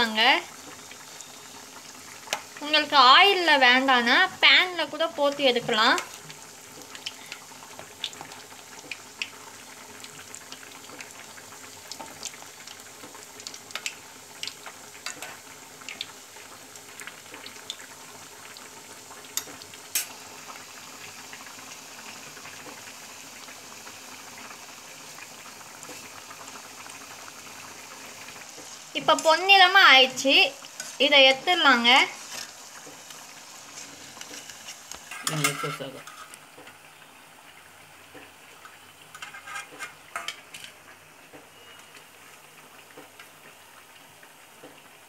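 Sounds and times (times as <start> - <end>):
food deep-frying in oil: 0.0 - 45.0.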